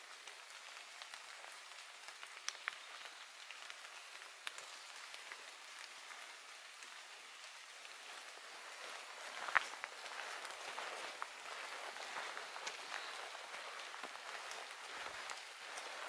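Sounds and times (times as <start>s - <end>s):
light rain on leaves: 0.0s - 16.0s
single raindrop ticks: 0.2s - 16.0s.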